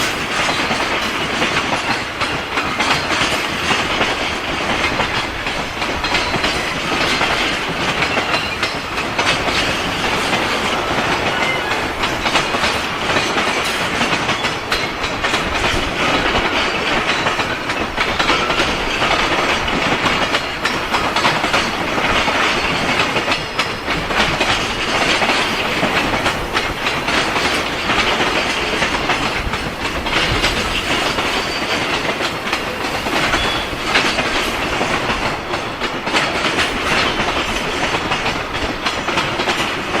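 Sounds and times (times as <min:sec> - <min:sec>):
train wagons rolling on rails: 0:00.0 - 0:40.0
wheels clicking over rail joints: 0:00.0 - 0:40.0.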